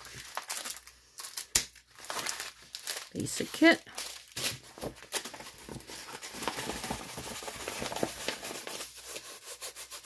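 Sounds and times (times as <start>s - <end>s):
paper and plastic crinkling: 0.0s - 9.4s.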